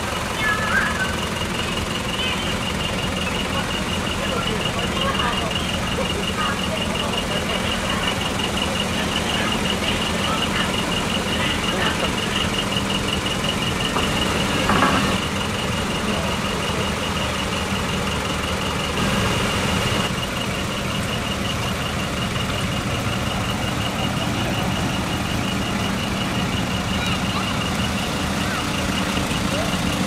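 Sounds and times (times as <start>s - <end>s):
diesel truck engine pulling away: 0.0s - 30.0s
truck warning beeper: 0.0s - 30.0s.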